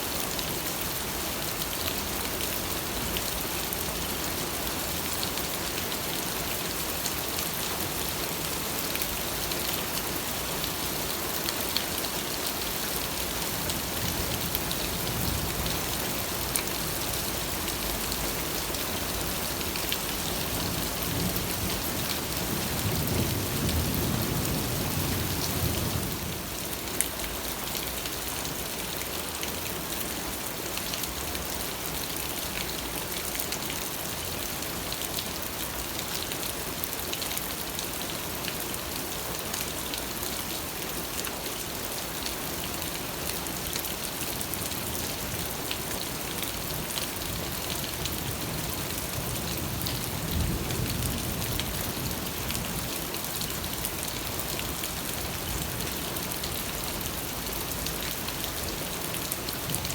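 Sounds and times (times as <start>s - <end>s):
rain pattering on surfaces: 0.1s - 59.9s.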